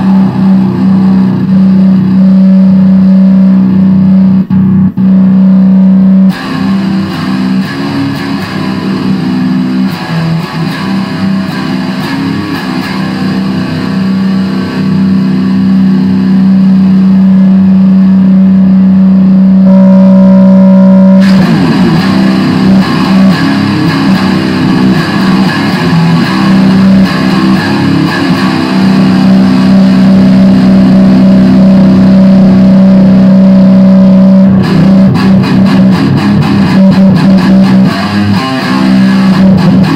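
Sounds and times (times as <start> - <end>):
heavy metal electric guitar riffing: 0.0 - 39.9
low droning guitar note: 0.0 - 39.9.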